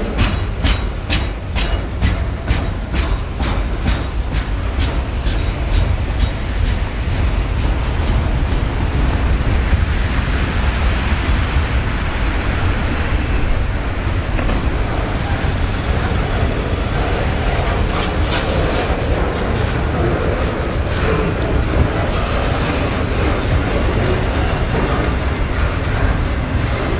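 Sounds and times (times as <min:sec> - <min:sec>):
steel wheels rumbling on rail: 0:00.0 - 0:26.9.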